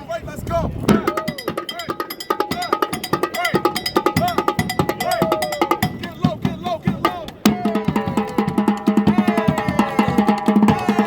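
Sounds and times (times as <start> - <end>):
fast drumming: 0.9 - 11.0.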